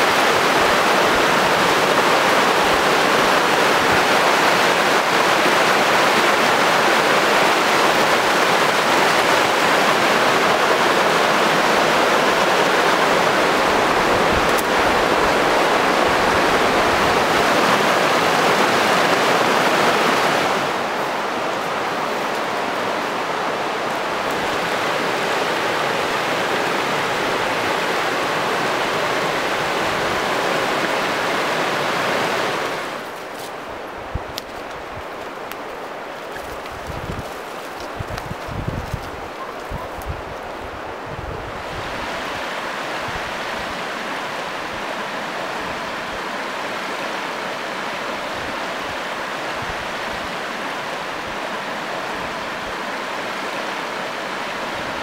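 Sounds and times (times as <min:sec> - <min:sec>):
river rapids rushing over rocks: 0:00.0 - 0:55.0.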